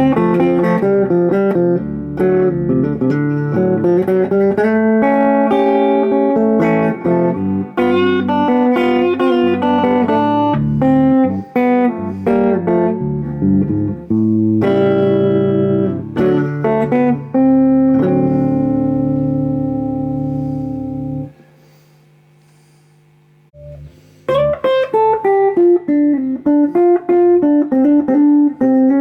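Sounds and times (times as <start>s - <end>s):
electric guitar blues licks: 0.0s - 21.4s, 23.6s - 29.0s.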